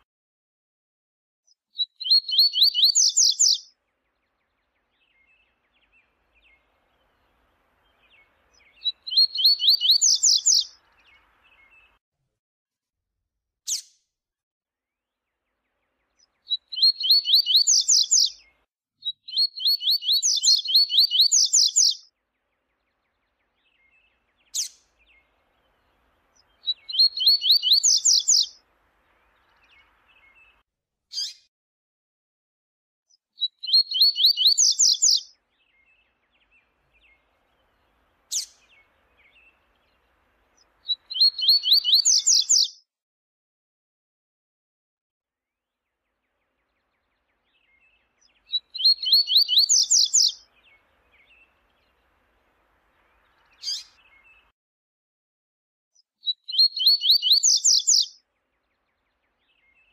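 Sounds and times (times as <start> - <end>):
bird song phrases: 1.5 - 12.0, 13.7 - 14.0, 14.9 - 31.5, 33.1 - 42.9, 45.4 - 54.5, 55.9 - 59.9.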